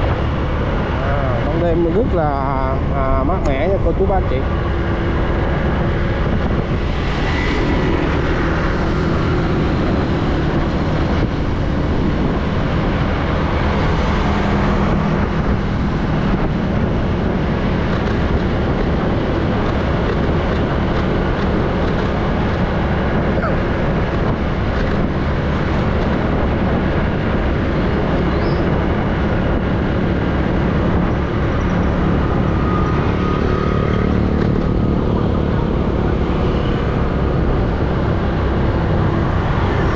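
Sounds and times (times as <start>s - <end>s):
motorbike engine and tyre hum: 0.0s - 39.9s
other motorbikes: 0.0s - 39.9s
wind rumble on microphone: 0.0s - 39.9s.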